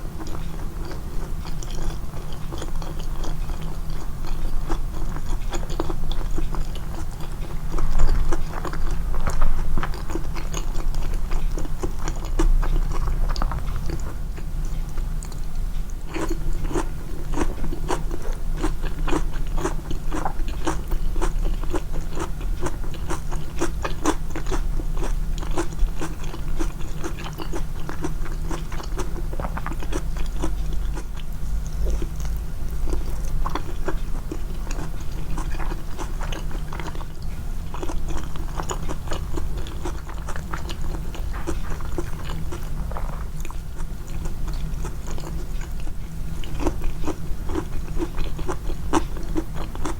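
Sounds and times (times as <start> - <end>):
biting and chewing food: 0.0 - 49.9
constant low hum: 0.0 - 49.9.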